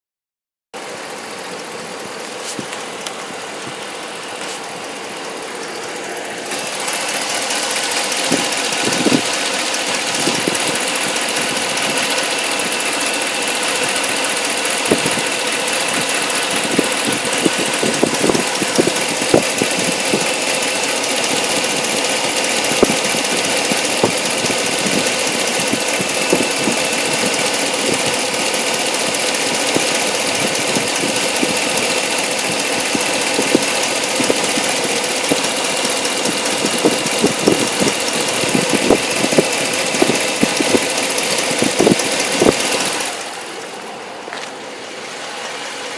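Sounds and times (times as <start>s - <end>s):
car engine running: 0.8s - 45.9s
irregular sharp ticks: 1.6s - 4.9s, 6.5s - 43.7s.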